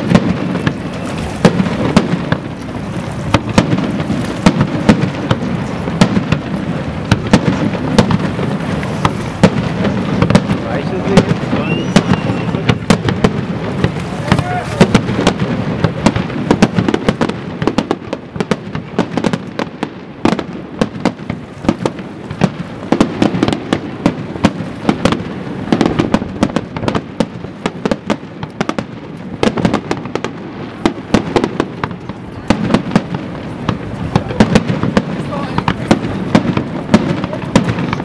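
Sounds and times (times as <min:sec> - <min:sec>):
fireworks cracking and popping: 0:00.0 - 0:38.0
heavy fireworks booms: 0:00.0 - 0:38.0.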